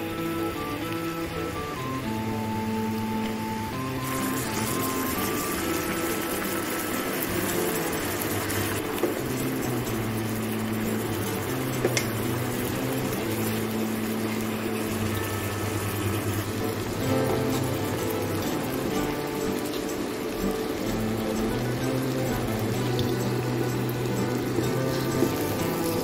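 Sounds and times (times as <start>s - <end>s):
sauce sizzling and bubbling in pan: 0.0s - 26.0s.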